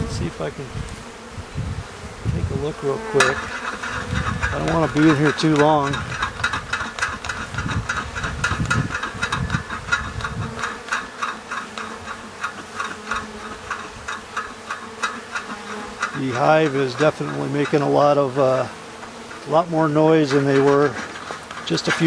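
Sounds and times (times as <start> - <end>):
bees buzzing: 0.0 - 22.0
rapid irregular ticking: 3.3 - 22.0.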